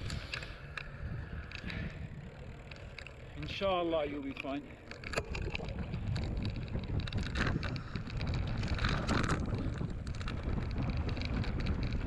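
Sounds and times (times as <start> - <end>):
bike tyres rolling on dirt: 0.0 - 12.0
short clicks and rattles: 0.0 - 12.0
wind buffeting microphone: 0.0 - 12.0.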